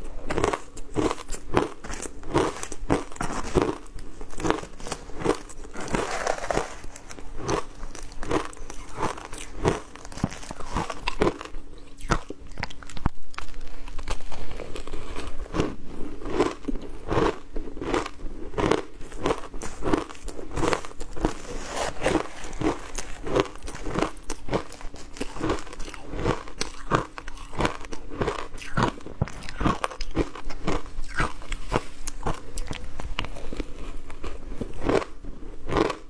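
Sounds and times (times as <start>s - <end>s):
ice crunching while chewed: 0.0s - 36.0s.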